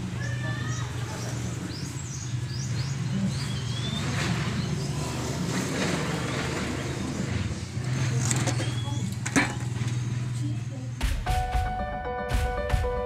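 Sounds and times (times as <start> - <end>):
birds chirping: 0.0 - 11.1.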